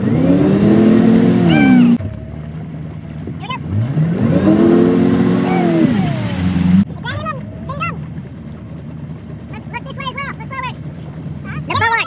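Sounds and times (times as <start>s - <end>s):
motorboat engine revving: 0.0s - 12.0s.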